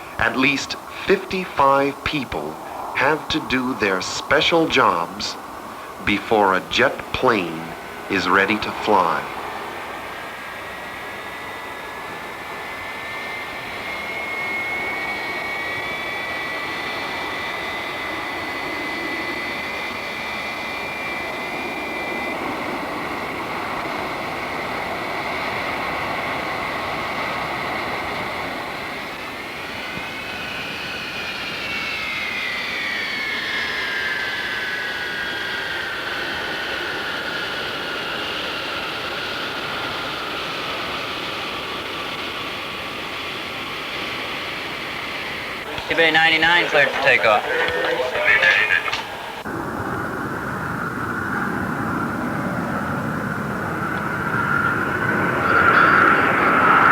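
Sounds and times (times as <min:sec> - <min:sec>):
jet engines whining: 0:00.0 - 0:56.9.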